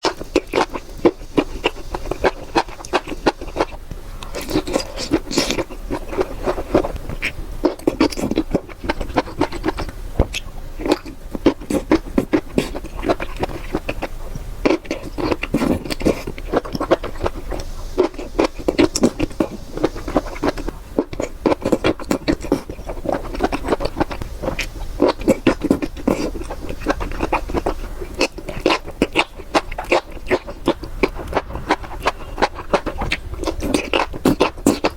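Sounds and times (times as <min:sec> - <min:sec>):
rapid chewing and crunching: 0:00.0 - 0:34.9.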